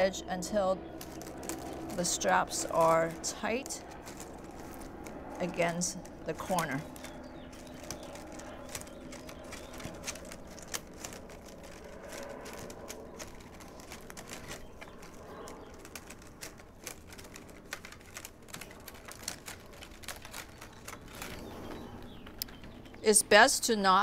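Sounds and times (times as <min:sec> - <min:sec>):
plastic straps clicking and rustling: 0:00.8 - 0:23.1.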